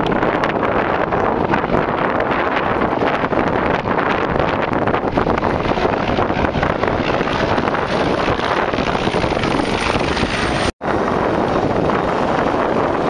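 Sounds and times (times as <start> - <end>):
wind buffeting microphone: 0.0 - 13.0
helicopter engine and rotor: 1.0 - 13.0.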